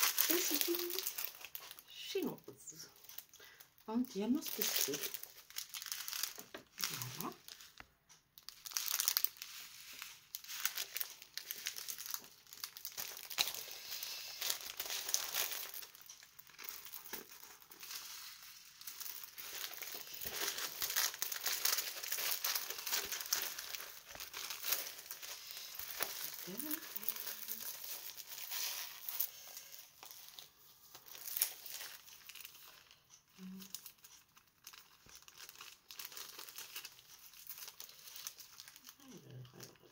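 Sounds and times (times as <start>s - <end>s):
packaging crinkling and rustling: 0.0s - 39.9s.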